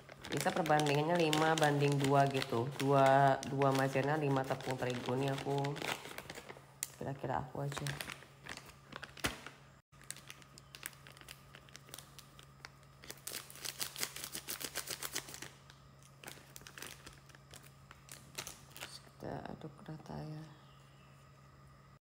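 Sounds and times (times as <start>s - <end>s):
plastic packet crinkling: 0.0s - 19.1s.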